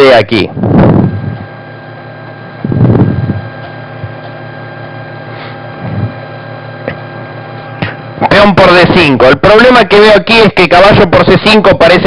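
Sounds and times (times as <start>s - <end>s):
steady tonal hum: 0.0s - 12.0s.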